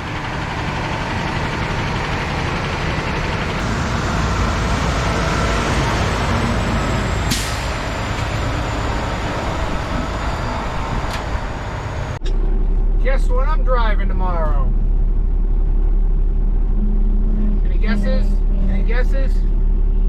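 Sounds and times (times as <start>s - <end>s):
diesel truck engine rumble: 0.0s - 20.0s
road noise: 0.0s - 20.0s.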